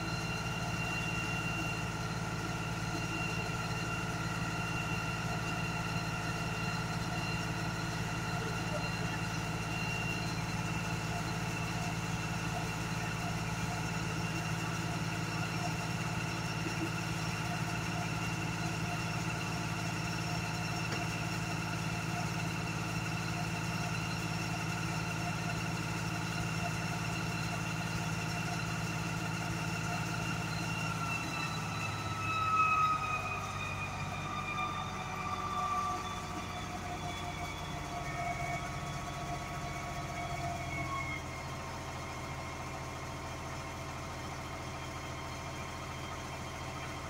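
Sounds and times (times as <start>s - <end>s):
engine and pump drone: 0.0s - 47.0s
steady pump whine: 0.0s - 47.0s.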